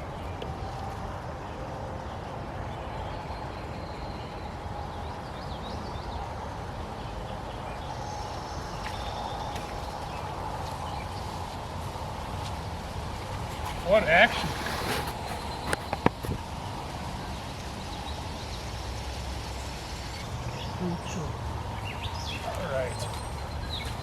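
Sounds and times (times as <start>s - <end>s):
river running: 0.0s - 24.0s.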